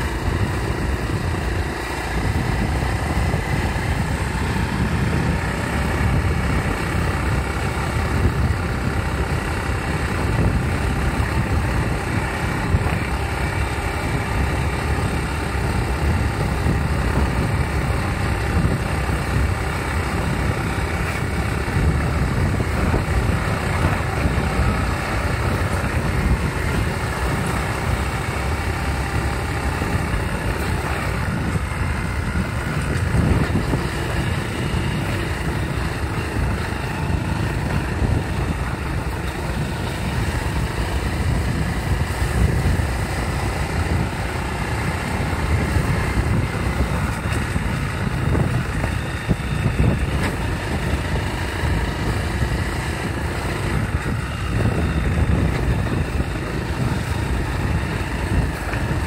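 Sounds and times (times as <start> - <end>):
small motorcycle engine running: 0.0 - 59.0
wind rumbling on microphone: 0.0 - 59.0.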